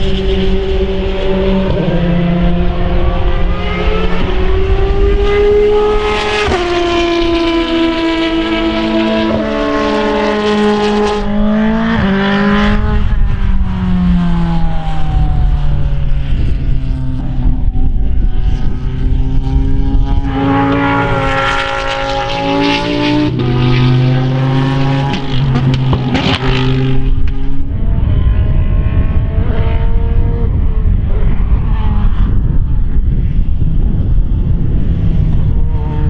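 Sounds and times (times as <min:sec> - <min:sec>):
racing car engine at speed: 0:00.0 - 0:36.0.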